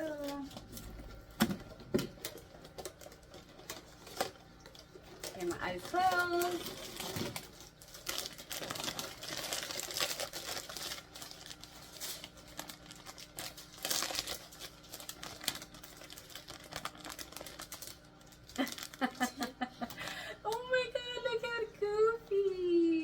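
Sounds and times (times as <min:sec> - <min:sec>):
packaging crinkling and rustling: 0:00.0 - 0:19.6
small packaging clicks: 0:00.0 - 0:20.6.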